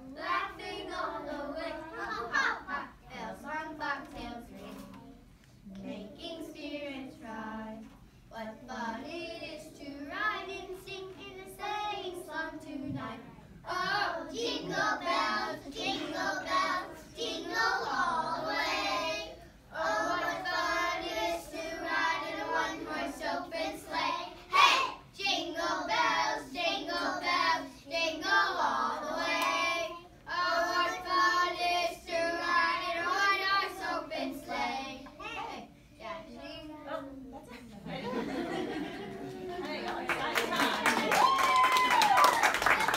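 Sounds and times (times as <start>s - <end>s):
children singing together: 0.0s - 5.1s, 5.7s - 35.1s.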